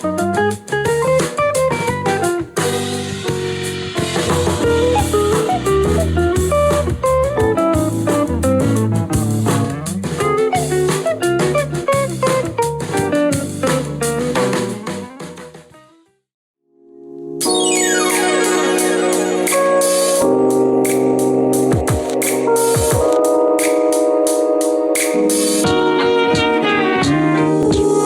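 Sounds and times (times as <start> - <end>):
guitar and drum music from speaker: 0.0 - 16.0, 17.5 - 28.0.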